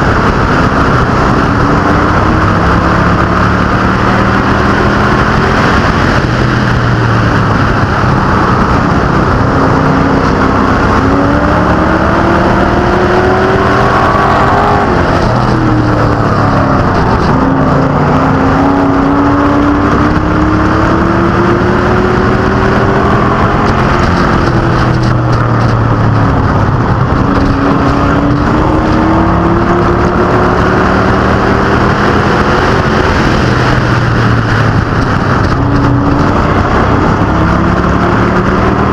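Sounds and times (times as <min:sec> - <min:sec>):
racing engines revving: 0:00.0 - 0:38.9.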